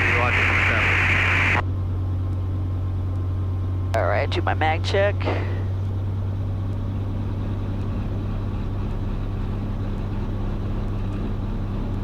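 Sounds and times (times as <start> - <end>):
helicopter engine and rotors droning: 0.0 - 12.0.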